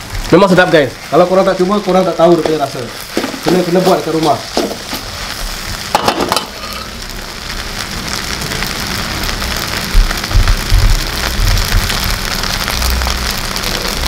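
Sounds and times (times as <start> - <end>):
rice sizzling in a wok: 0.0 - 14.0.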